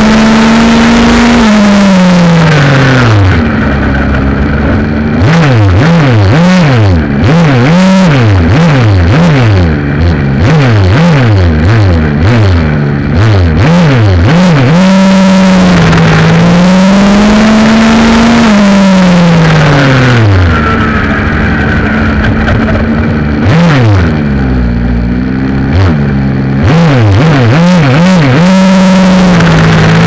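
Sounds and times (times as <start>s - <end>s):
small two-stroke engine revving: 0.0s - 30.0s.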